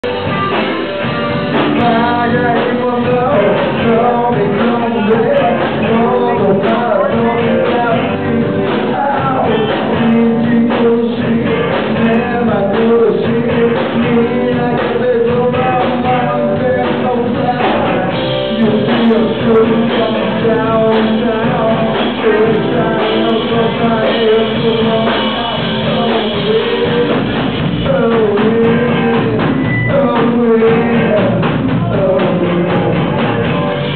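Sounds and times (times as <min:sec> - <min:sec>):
drum kit: 0:00.0 - 0:33.9
electric guitars: 0:00.0 - 0:33.9
man singing: 0:00.0 - 0:33.9.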